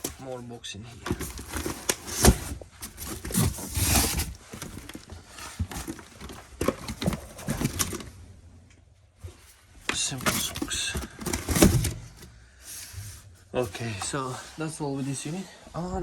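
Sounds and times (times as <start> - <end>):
books handled in cardboard box: 0.0 - 15.9.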